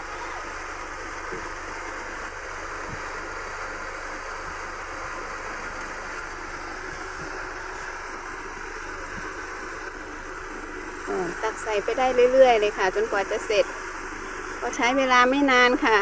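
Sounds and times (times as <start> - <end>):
electric rice mill running: 0.0 - 16.0.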